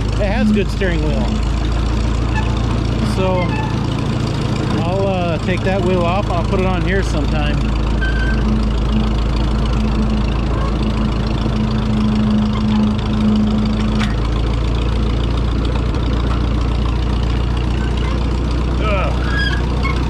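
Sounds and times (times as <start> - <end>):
held hum: 0.0 - 20.0
tractor engine running: 0.0 - 20.0.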